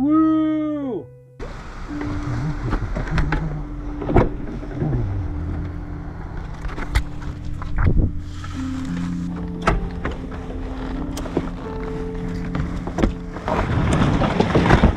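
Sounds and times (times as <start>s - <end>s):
vehicle engine running: 1.4s - 14.3s.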